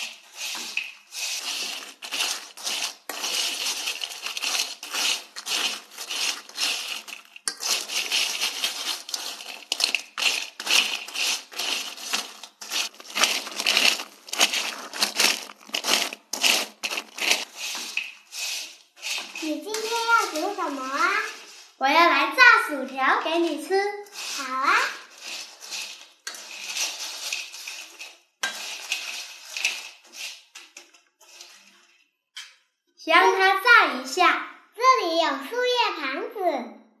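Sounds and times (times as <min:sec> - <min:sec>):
spatula scraping fries in a wok: 0:00.0 - 0:32.0.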